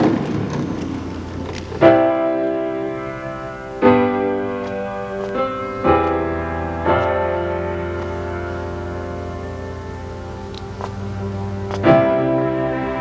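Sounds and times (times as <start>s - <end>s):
soft keyboard chords: 0.0s - 13.0s.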